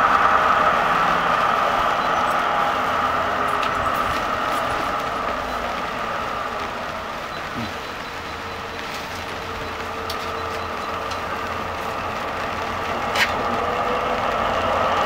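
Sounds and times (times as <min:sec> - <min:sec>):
steady whine: 0:00.0 - 0:14.6
diesel locomotive engine running: 0:00.0 - 0:15.0.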